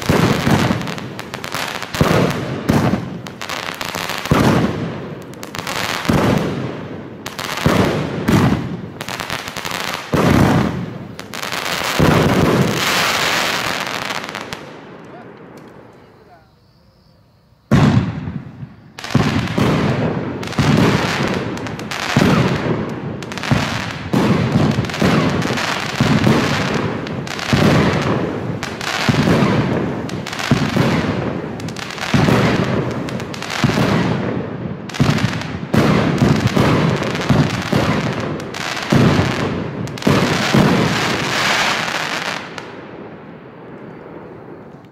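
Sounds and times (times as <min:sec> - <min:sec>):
firework battery firing: 0:00.0 - 0:16.5, 0:17.7 - 0:42.8.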